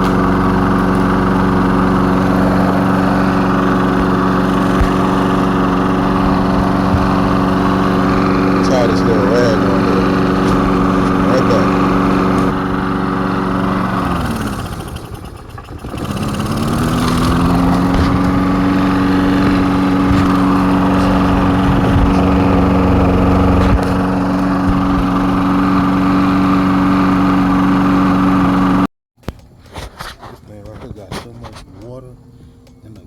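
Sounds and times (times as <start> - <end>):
lawnmower engine running: 0.0 - 28.9.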